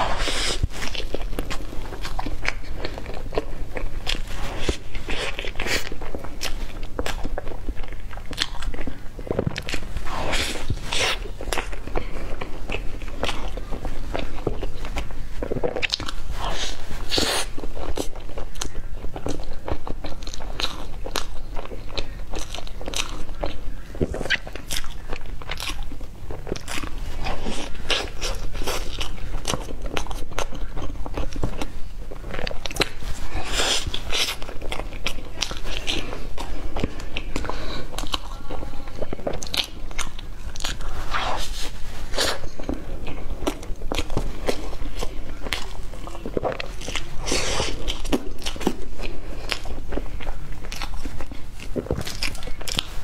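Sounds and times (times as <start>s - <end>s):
chocolate coating crunching: 0.0s - 53.0s
soft chewing: 0.0s - 53.0s.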